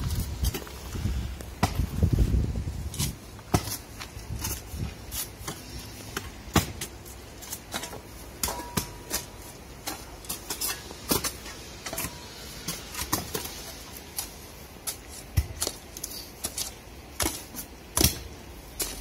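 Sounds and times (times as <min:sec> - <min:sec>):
hoe chopping soil and roots: 0:00.0 - 0:19.0.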